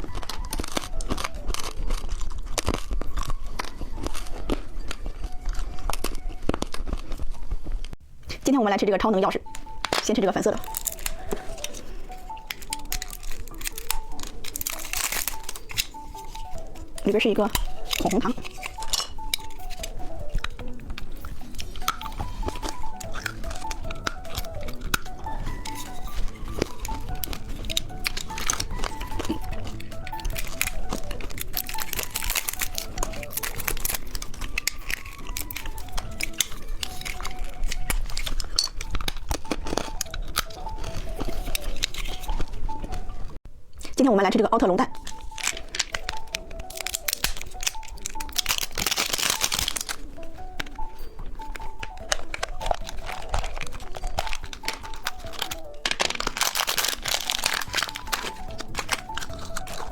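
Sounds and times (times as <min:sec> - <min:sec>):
candy wrapper crinkling and tearing: 0:00.0 - 0:08.0, 0:09.4 - 0:43.4, 0:44.9 - 0:59.9
faint background tune: 0:00.0 - 0:59.9
faint music: 0:00.0 - 0:59.9.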